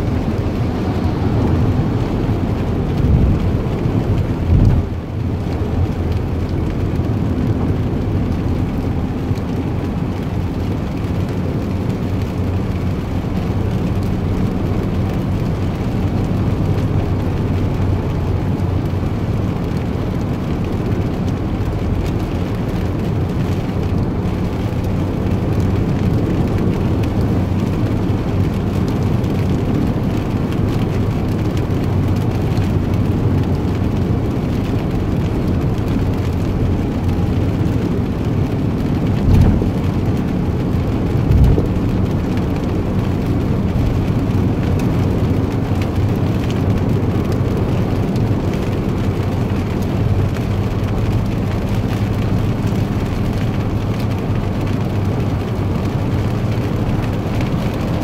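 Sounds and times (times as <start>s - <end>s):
vehicle low rumble: 0.0s - 58.0s.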